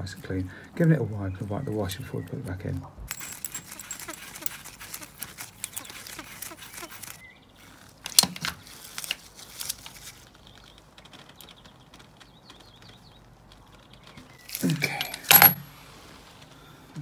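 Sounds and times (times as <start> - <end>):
rubber gloves squeaking: 3.0 - 16.8.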